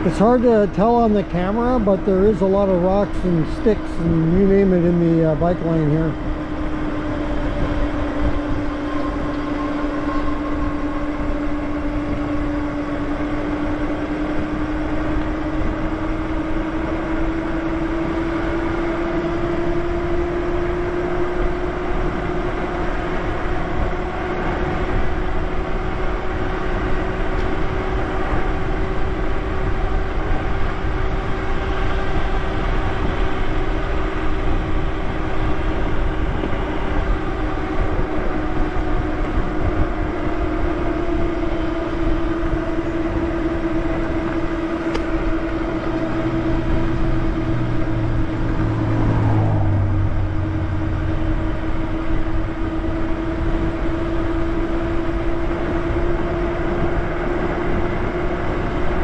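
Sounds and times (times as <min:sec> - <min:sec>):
electric bike motor whining: 0:00.0 - 0:59.0
wind and tyre noise: 0:00.0 - 0:59.0.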